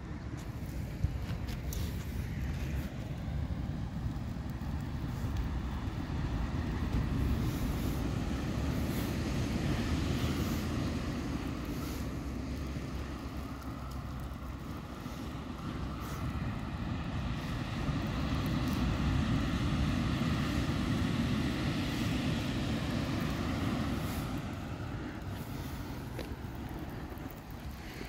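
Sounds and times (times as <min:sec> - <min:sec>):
surf rumble: 0:00.0 - 0:28.0
wind: 0:00.0 - 0:28.0.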